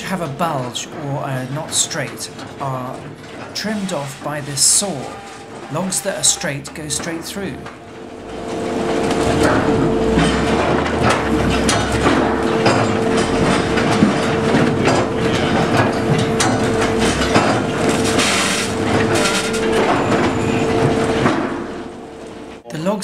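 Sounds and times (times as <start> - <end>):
chains and steel clanking: 0.0 - 22.6
steady machine hum: 0.0 - 22.7.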